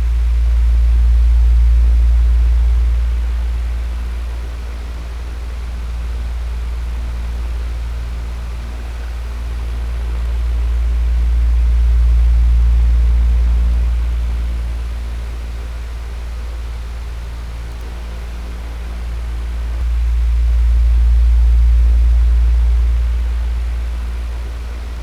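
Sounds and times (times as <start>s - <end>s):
electric fan running: 0.0s - 25.0s.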